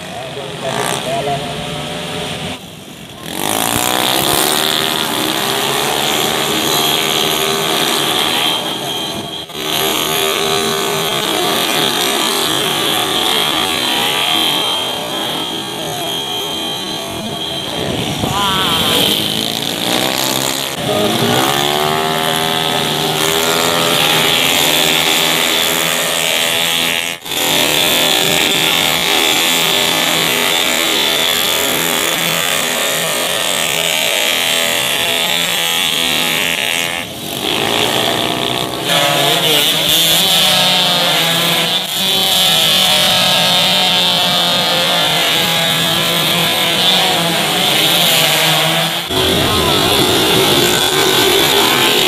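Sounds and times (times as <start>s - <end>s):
motorcycles passing at full throttle: 0.0s - 52.0s.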